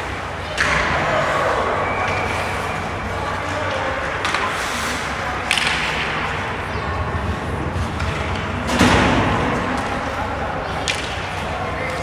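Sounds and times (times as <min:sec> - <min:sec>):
arena noise: 0:00.0 - 0:12.0.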